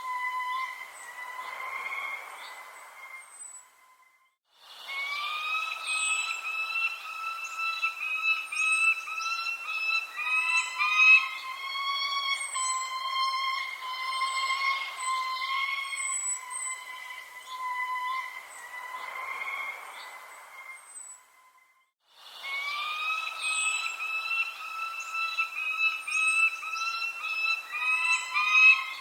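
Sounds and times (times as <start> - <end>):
birds chirping: 0.0 - 29.0
sustained whistling tone: 0.0 - 29.0.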